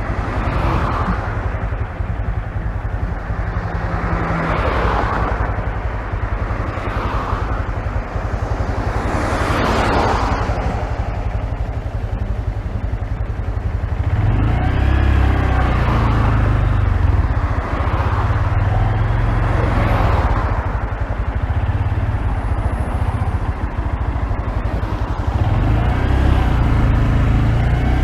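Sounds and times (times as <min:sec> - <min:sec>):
muffled motorcycle engine running: 0:00.0 - 0:28.0.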